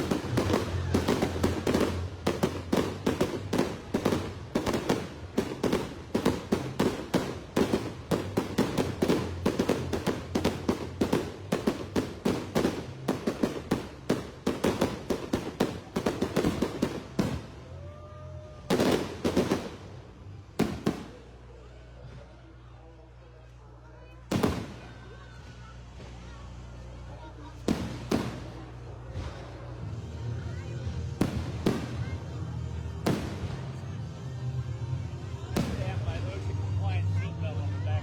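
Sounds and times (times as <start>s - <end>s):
fireworks bangs and crackles: 0.0s - 22.4s, 24.2s - 37.2s.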